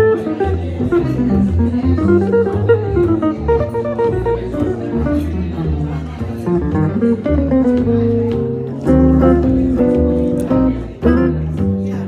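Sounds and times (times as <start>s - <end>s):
jazz guitar: 0.0s - 12.0s
upright bass plucking: 0.0s - 12.0s.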